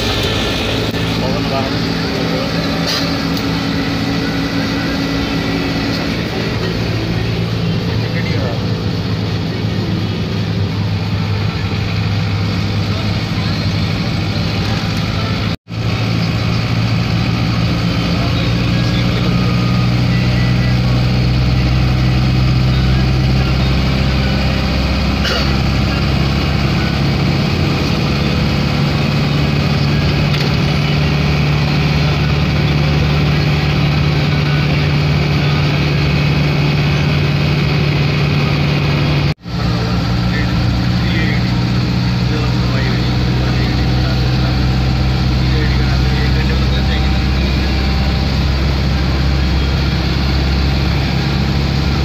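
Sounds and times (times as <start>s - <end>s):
road noise: 0.0s - 52.0s
vehicle engine drone: 0.0s - 52.0s.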